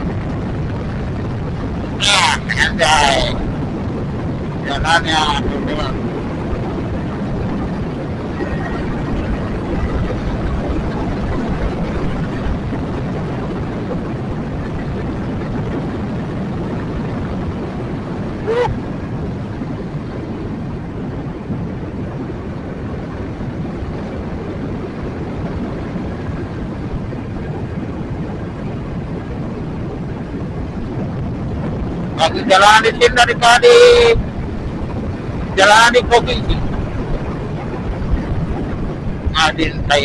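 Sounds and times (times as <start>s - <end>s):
motorcycle engine and wind: 0.0s - 33.0s, 33.6s - 35.6s, 36.2s - 40.0s.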